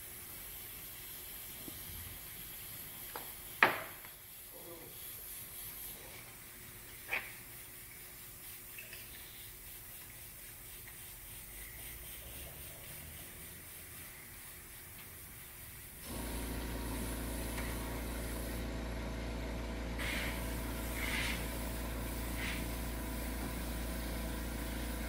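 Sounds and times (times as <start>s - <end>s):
airbrush spraying hiss: 0.0s - 18.7s, 20.0s - 25.0s.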